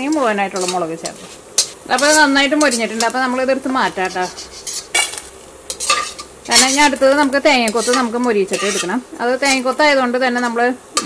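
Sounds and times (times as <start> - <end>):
metal spatula scraping metal pan: 0.0 - 9.8.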